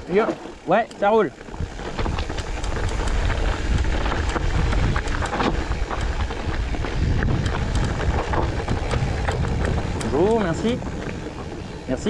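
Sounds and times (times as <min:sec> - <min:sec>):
bike rattling: 0:00.0 - 0:12.0
bike tyres crunching over gravel: 0:00.0 - 0:12.0
wind rumble on microphone: 0:00.0 - 0:12.0.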